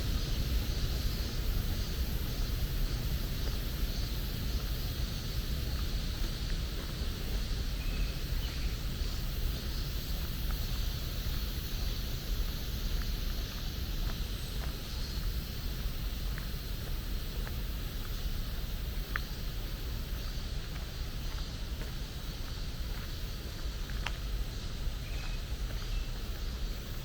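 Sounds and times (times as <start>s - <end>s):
low rumbling background noise: 0.0s - 27.0s.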